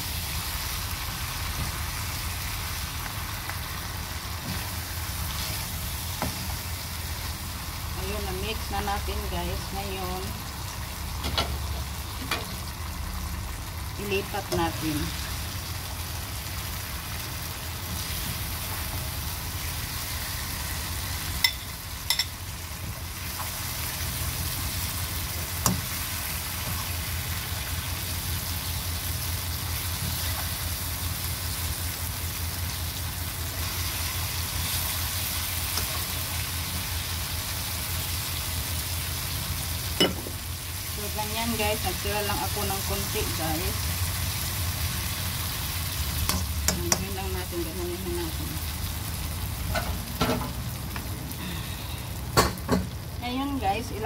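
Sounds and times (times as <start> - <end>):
vegetables sizzling in a wok: 0.0 - 54.0.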